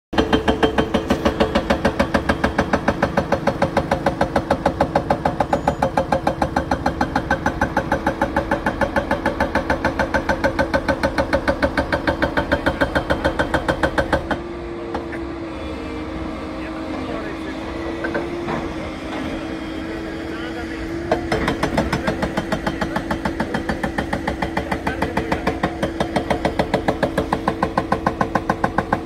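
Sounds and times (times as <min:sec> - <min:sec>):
hydraulic rock breaker hammering: 0:00.1 - 0:15.5, 0:16.2 - 0:29.0
diesel engine running: 0:00.1 - 0:29.0.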